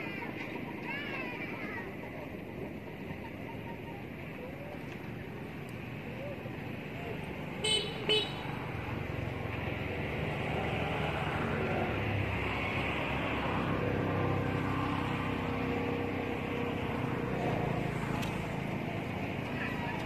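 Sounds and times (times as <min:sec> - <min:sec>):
vehicle engine and traffic noise: 0:00.0 - 0:20.0.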